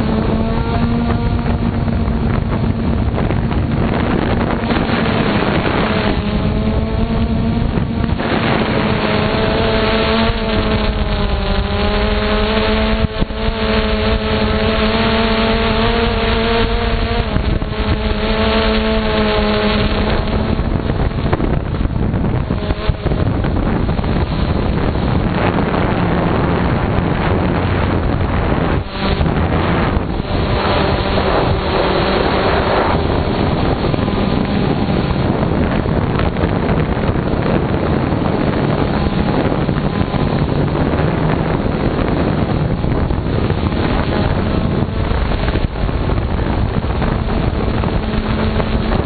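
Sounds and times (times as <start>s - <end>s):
drone propellers buzzing: 0.0s - 49.0s
wind on microphone: 0.0s - 49.0s.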